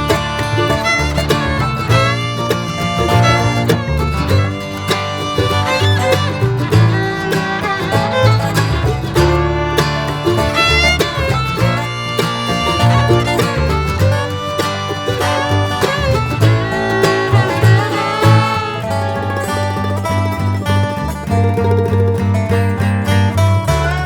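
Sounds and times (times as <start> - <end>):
fiddle: 0.0 - 24.0
guitar: 0.0 - 24.0
steady bass line: 0.0 - 24.0.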